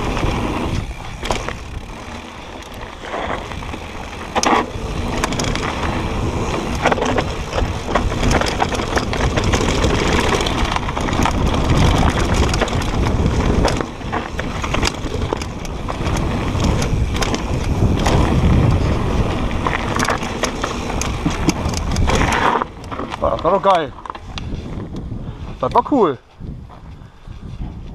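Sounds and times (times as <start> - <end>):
tyres rolling over dirt and stones: 0.0 - 24.8
bike clicks and rattles: 0.0 - 27.9
wind buffeting microphone: 0.0 - 27.9.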